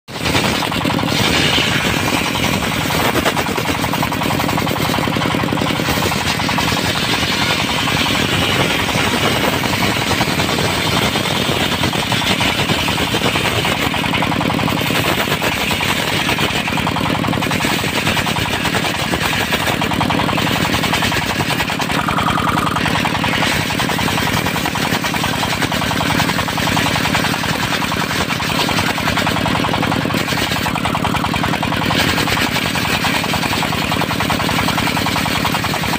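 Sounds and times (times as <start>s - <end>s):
sawmill diesel engine running: 0.0s - 35.9s
circular saw cutting wood: 0.1s - 35.9s.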